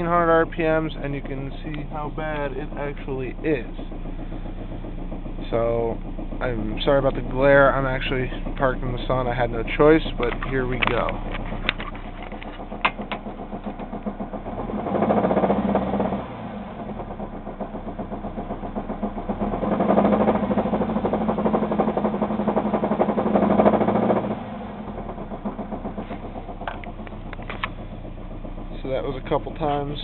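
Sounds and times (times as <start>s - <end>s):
car engine idling with knock: 0.0s - 30.0s
car engine revving: 0.0s - 30.0s.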